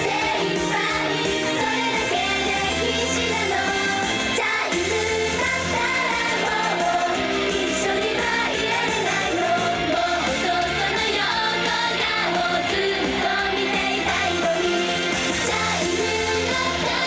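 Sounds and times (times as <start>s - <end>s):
band playing pop music: 0.0s - 17.0s
girl group singing: 0.0s - 17.0s.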